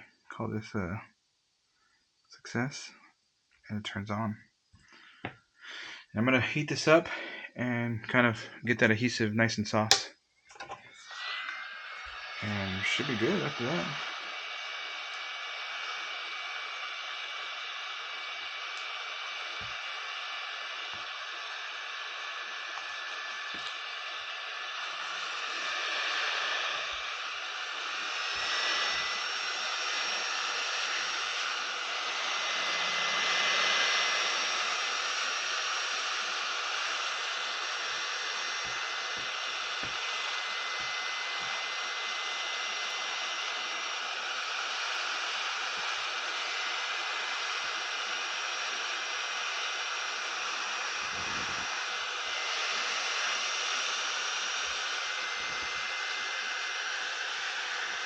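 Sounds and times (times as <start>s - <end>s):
hot air rushing with faint whine: 10.9s - 58.0s.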